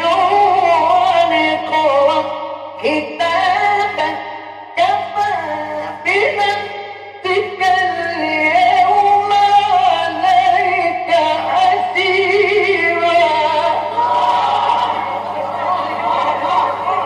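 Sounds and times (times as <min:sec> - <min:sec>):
low recording hum: 0:00.0 - 0:17.0
man reciting melodically: 0:00.0 - 0:17.0.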